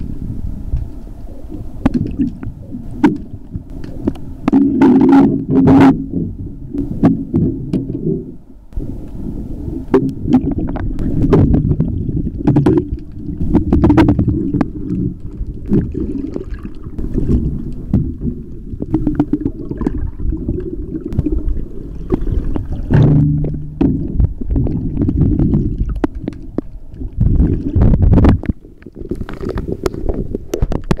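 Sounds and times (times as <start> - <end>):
underwater churning rumble: 0.0 - 31.0.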